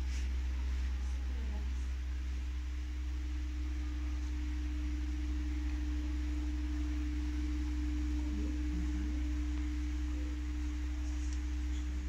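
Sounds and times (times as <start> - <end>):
steady low hum: 0.0 - 12.0
steady mid-pitched tone: 0.0 - 12.0.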